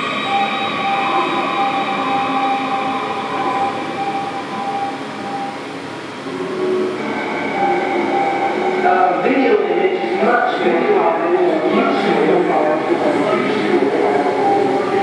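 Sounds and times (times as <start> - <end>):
high whining tones: 0.0 - 15.0
train rumbling: 0.0 - 15.0.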